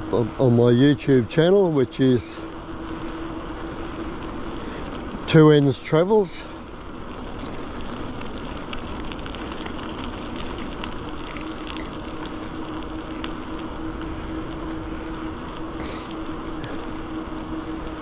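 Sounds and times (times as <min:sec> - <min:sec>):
bicycle tyre rumble: 0:00.0 - 0:18.0
low hum: 0:00.0 - 0:18.0.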